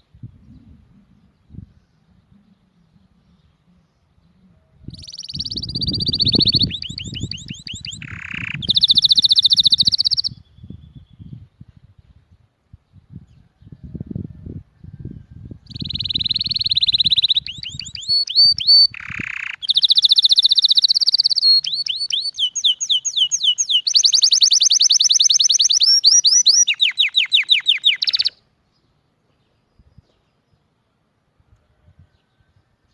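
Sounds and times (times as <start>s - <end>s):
songbird singing trills: 0.0s - 12.2s, 12.9s - 30.8s.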